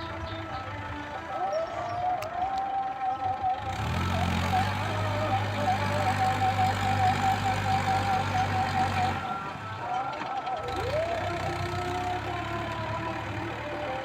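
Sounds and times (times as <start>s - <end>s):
background music: 0.0s - 14.0s
tractor diesel engine running: 0.0s - 14.0s.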